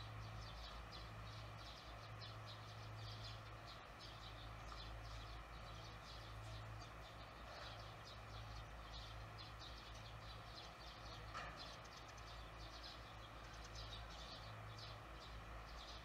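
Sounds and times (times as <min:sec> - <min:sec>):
swallows twittering: 0:00.0 - 0:16.0.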